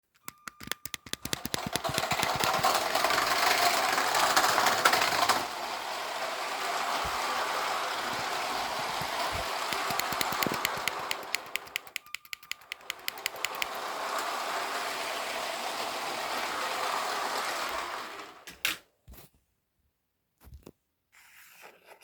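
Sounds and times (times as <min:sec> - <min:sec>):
toy train wheels clicking: 0:00.1 - 0:18.5
toy train motor whirring: 0:00.2 - 0:18.5.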